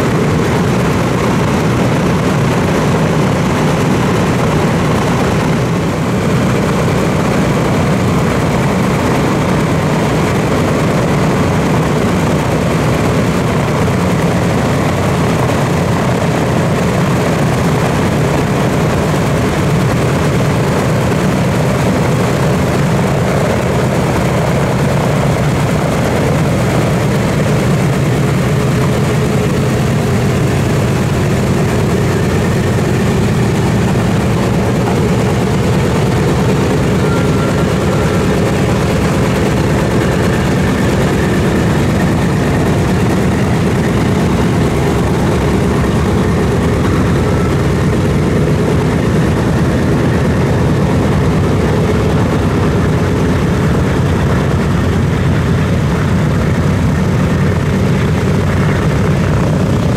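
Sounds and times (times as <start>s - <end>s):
radial aircraft engines rumbling: 0.0s - 59.9s.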